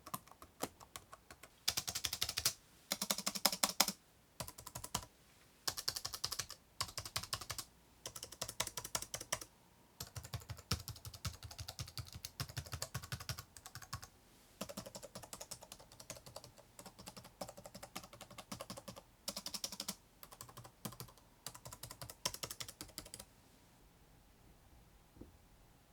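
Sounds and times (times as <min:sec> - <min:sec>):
typing on laptop keyboard: 0:00.0 - 0:05.1, 0:05.7 - 0:23.3.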